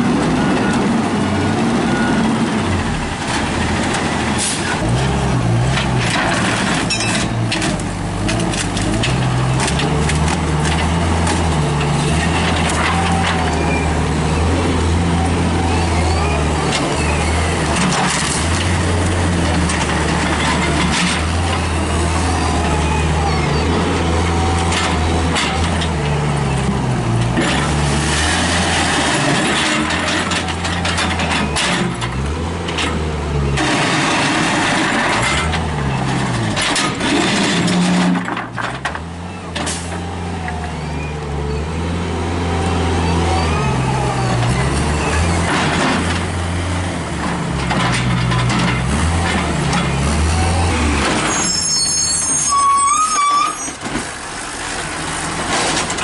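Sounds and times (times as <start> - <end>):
garbage truck diesel engine: 0.0 - 56.0
wheel loader engine running: 0.0 - 56.0.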